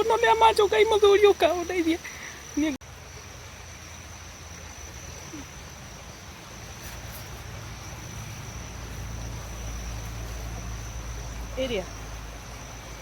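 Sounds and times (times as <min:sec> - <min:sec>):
insects trilling: 0:00.0 - 0:13.0
outdoor background hiss: 0:00.0 - 0:13.0.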